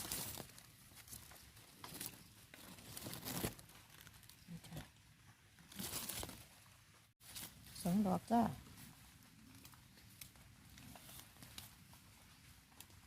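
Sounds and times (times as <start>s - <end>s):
leaves rustling and crunching: 0.0s - 5.0s, 5.6s - 13.0s.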